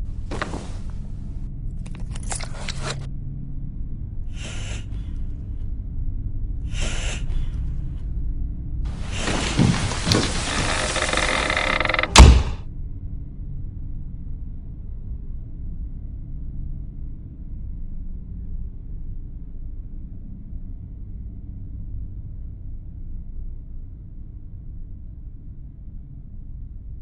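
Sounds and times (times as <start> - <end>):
low background rumble: 0.0 - 27.0
steady low hum: 0.0 - 27.0.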